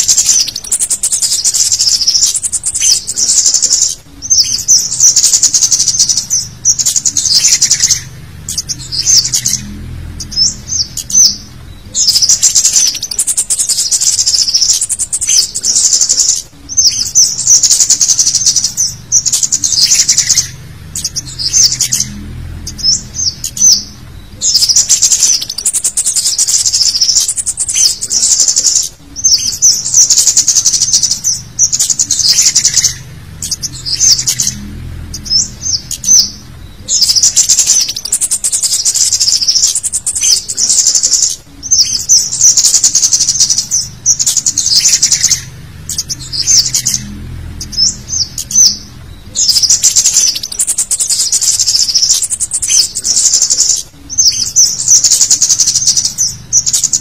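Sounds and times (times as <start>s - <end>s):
bird chittering calls: 0.0s - 57.0s.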